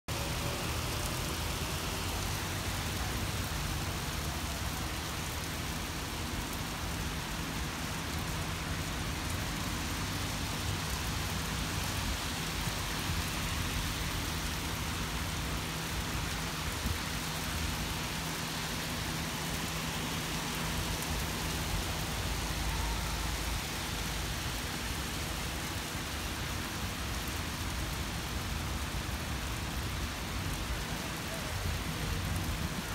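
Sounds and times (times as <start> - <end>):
heavy rain on a street: 0.1 - 32.9.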